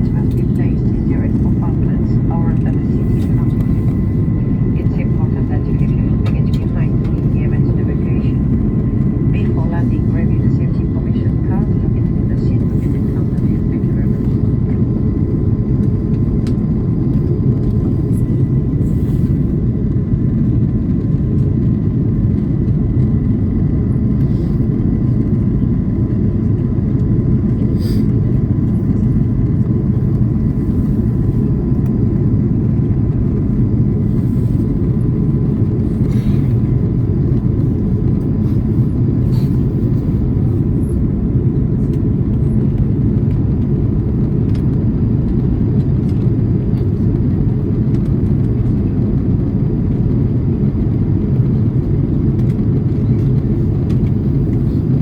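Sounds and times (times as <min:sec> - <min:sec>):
deep rumble of engines and airflow: 0:00.0 - 0:55.0.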